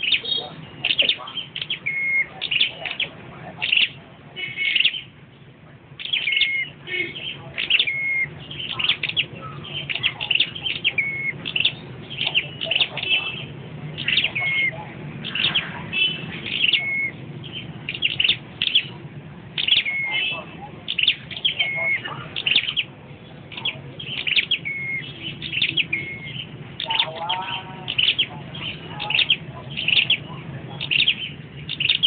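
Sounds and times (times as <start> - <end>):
low background murmur: 0.0 - 32.0
songbird singing chirpy phrases: 0.0 - 32.0.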